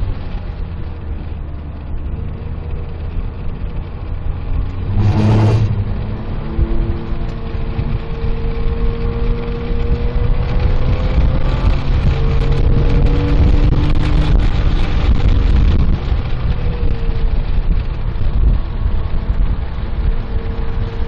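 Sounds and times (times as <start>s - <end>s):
car engine accelerating: 0.0s - 21.0s
wind and road noise: 0.0s - 21.0s.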